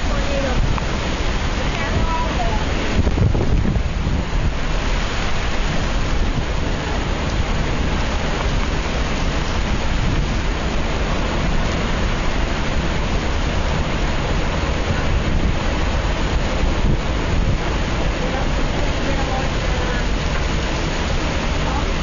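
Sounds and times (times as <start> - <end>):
deep low rumble: 0.0 - 22.0
heavy rain: 0.0 - 22.0
hurricane wind: 0.0 - 22.0.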